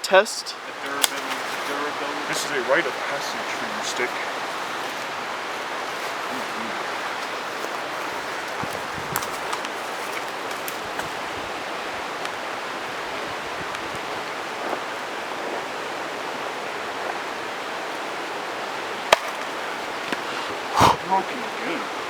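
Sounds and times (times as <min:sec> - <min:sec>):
river water rushing: 0:00.5 - 0:22.0.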